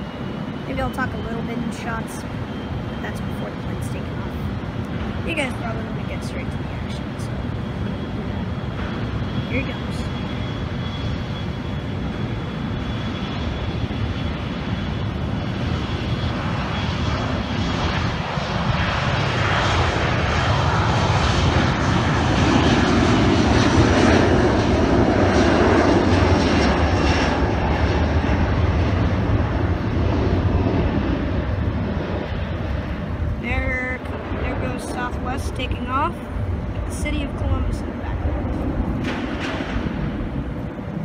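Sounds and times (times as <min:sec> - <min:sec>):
jet engines at takeoff: 0:00.0 - 0:41.0.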